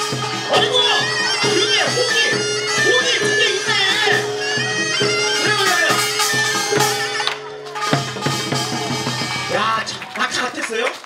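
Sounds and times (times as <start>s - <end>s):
held drone note: 0.0s - 9.6s
reed instrument melody: 0.0s - 10.3s.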